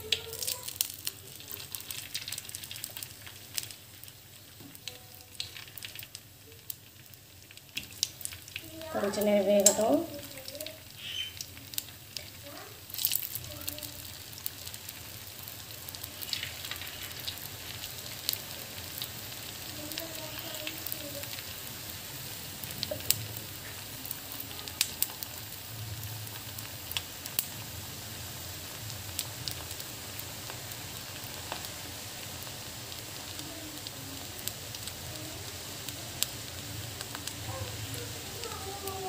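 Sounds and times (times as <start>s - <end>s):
deep-frying in hot oil: 0.0s - 39.0s.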